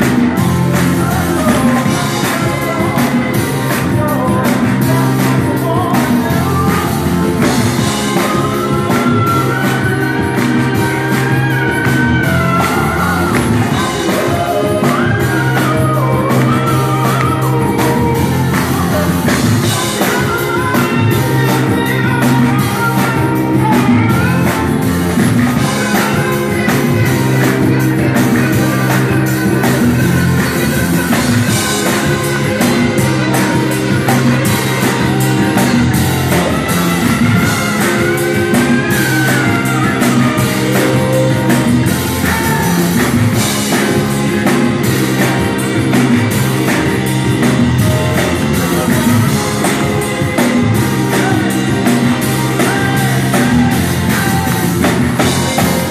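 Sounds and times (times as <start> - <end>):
man singing into a microphone: 0.0 - 44.6, 47.4 - 55.9
drum beat: 0.0 - 55.9
electric guitar: 0.0 - 55.9
low bass notes: 0.0 - 55.9.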